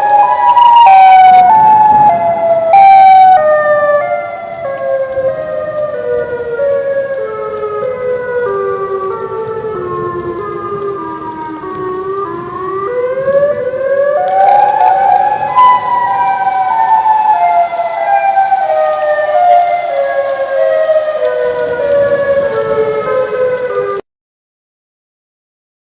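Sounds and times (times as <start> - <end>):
multi-tone siren-like wail: 0.0 - 24.0.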